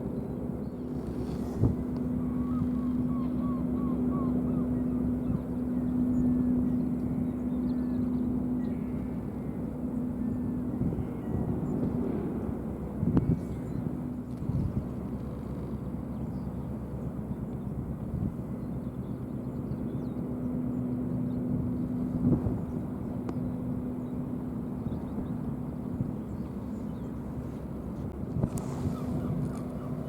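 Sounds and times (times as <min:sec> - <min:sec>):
ferry engines droning: 0:00.0 - 0:30.0.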